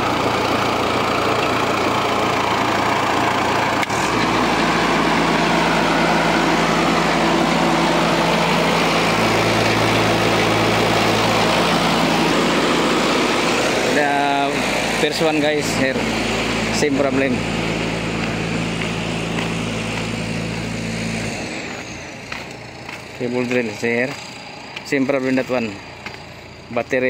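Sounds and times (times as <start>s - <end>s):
machine engine running: 0.0s - 27.0s.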